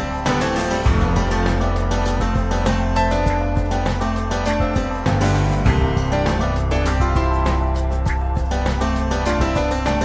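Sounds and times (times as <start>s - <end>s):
deep bass part: 0.0s - 10.0s
music with steady beat: 0.0s - 10.0s.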